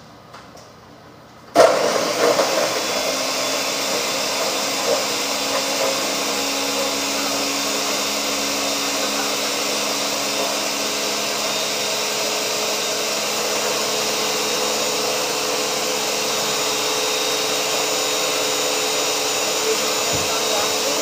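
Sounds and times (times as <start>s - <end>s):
blender whirring: 1.6s - 21.0s.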